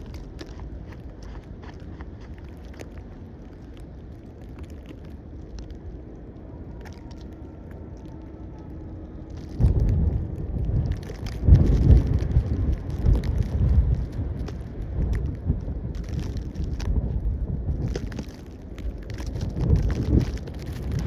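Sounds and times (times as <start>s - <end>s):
low steady rumble: 0.0s - 21.0s
wind buffeting microphone: 0.0s - 21.0s.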